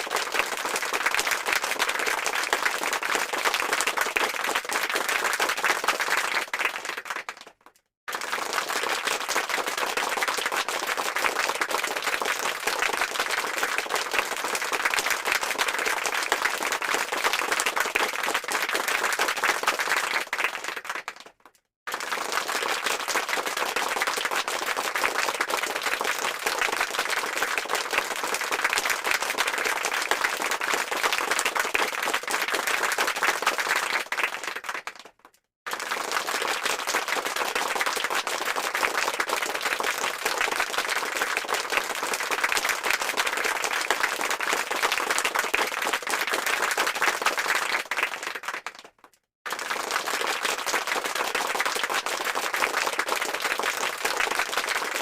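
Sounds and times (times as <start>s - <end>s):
crowd applause: 0.0s - 21.3s, 21.9s - 35.1s, 35.7s - 48.9s, 49.5s - 55.0s.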